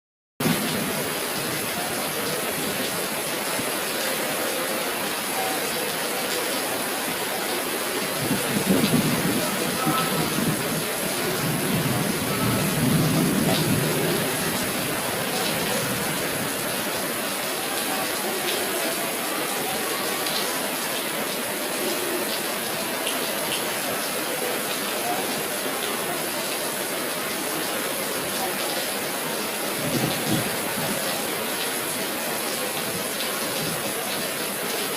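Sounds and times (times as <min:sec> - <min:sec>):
flowing water rushing: 0:00.4 - 0:34.9.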